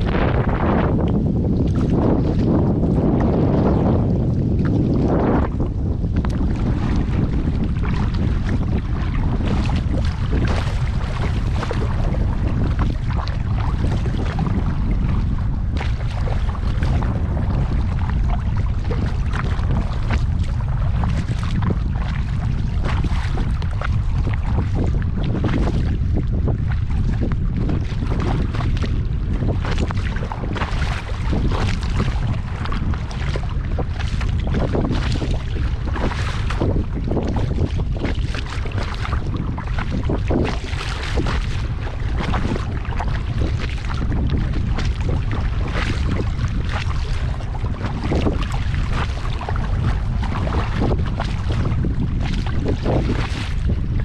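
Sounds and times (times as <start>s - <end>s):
paddle splashing in water: 0.0s - 54.0s
wind buffeting microphone: 0.0s - 54.0s.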